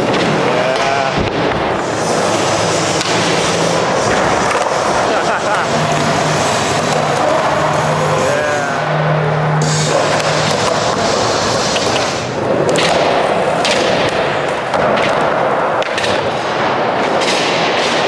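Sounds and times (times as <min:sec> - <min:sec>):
skateboard clacks: 0:00.0 - 0:07.8, 0:09.6 - 0:18.0
skateboard wheels rolling on concrete: 0:00.0 - 0:18.0.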